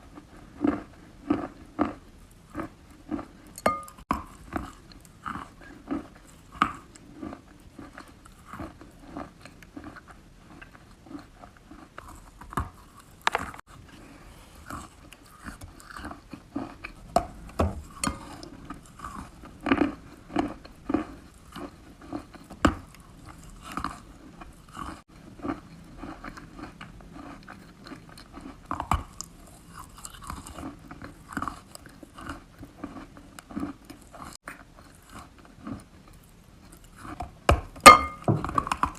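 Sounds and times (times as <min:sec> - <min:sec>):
chewing and crunching chalk: 0:00.0 - 0:38.9.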